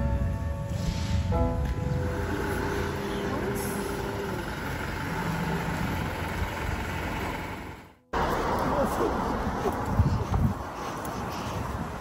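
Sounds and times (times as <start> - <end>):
heavy vehicle passing: 0.6 - 12.0.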